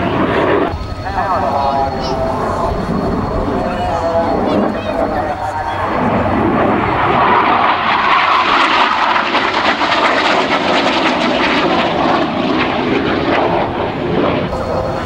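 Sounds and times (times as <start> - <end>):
crackling jet noise overhead: 0.0 - 15.0.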